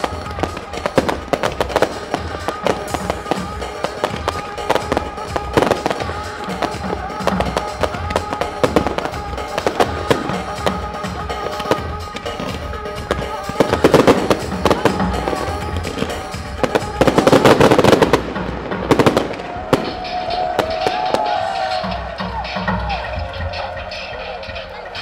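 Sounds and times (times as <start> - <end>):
fireworks bursting: 0.0 - 25.0
fireworks crackling: 0.0 - 25.0
music soundtrack: 0.0 - 25.0.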